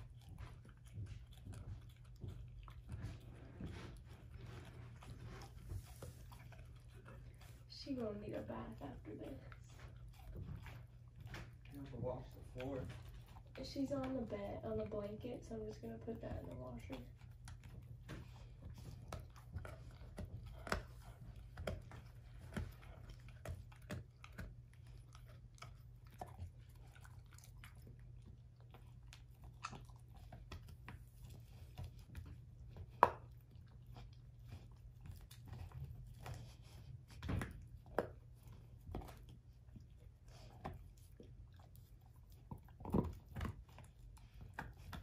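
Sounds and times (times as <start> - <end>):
dog chewing bone: 0.0 - 45.0.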